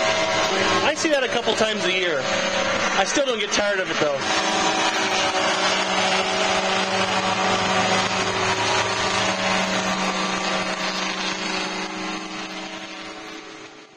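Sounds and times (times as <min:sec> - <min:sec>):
model helicopter drone: 0:00.0 - 0:13.9.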